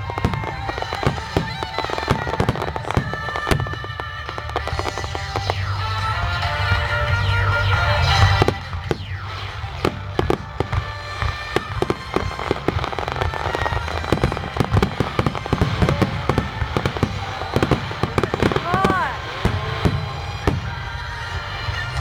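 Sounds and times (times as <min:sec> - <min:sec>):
fireworks bangs and crackles: 0:00.0 - 0:22.0
music playing: 0:00.0 - 0:22.0.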